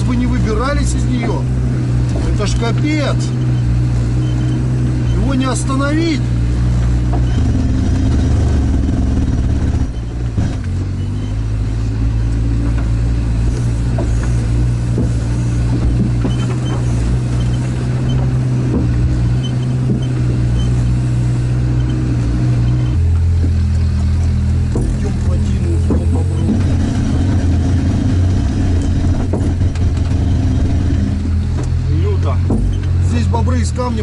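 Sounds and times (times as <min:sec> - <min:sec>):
vehicle engine drone from cab: 0:00.0 - 0:34.0.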